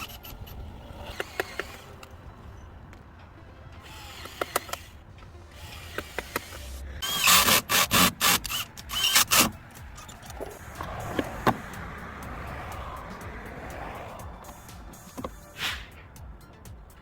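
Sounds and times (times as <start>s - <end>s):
harsh scraping strokes with squeaks: 0.0s - 2.2s, 3.8s - 16.1s.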